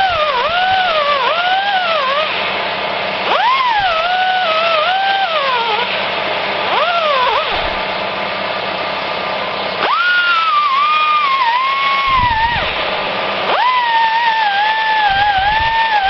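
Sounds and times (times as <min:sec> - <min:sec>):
air grinder whining: 0:00.0 - 0:16.0.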